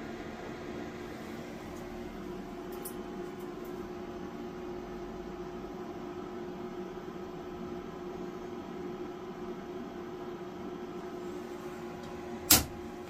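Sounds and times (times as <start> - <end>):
cooling fans whirring: 0.0 - 13.0.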